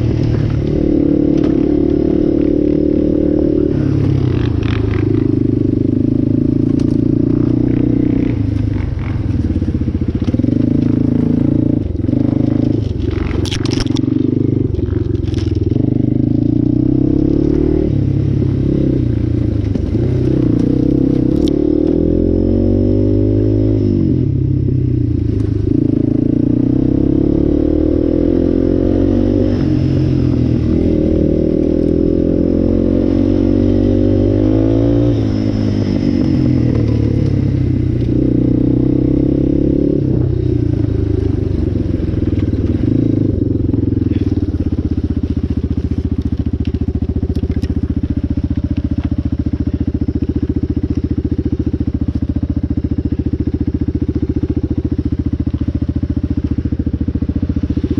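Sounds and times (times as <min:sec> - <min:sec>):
atv engine revving: 0:00.0 - 0:57.9.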